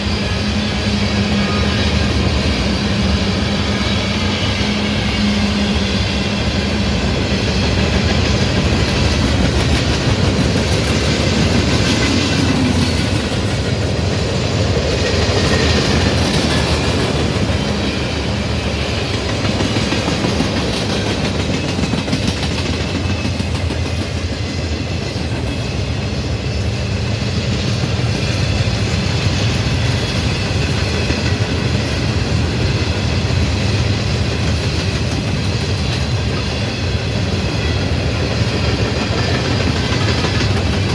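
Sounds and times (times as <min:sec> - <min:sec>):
train rumble: 0:00.0 - 0:40.9
train wheels clacking on rails: 0:00.0 - 0:40.9.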